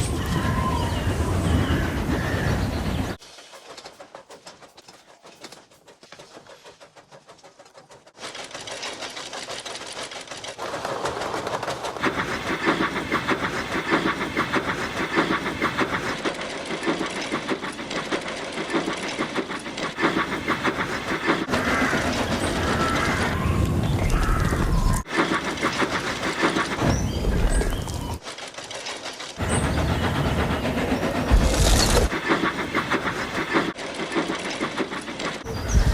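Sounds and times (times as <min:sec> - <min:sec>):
train wheels clattering: 0:01.6 - 0:35.9.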